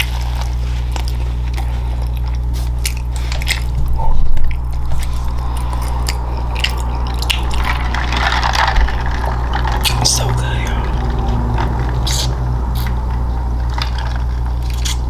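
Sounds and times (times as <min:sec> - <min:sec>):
biting and chewing: 0:00.0 - 0:15.0
low electrical hum: 0:00.0 - 0:15.0.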